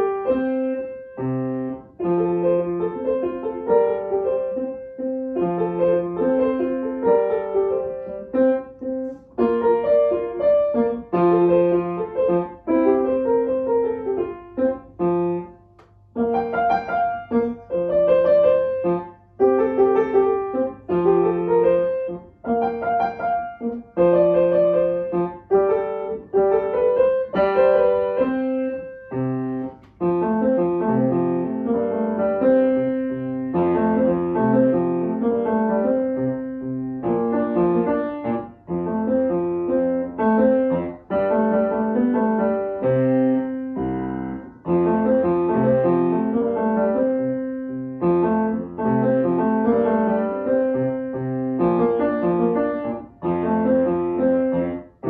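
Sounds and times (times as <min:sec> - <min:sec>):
solo grand piano: 0:00.0 - 0:55.0.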